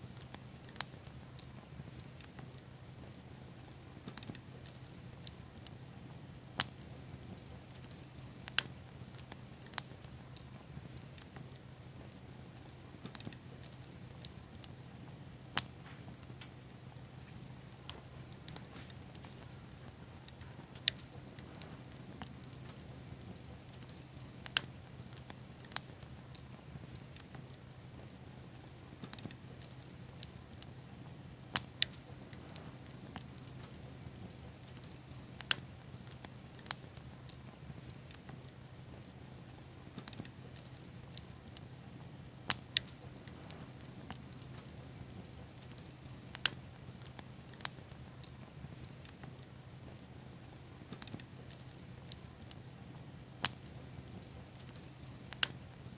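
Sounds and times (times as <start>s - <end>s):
bonfire popping and crackling: 0.0s - 55.9s
faint steady hiss: 0.0s - 55.9s
low steady hum: 0.0s - 55.9s.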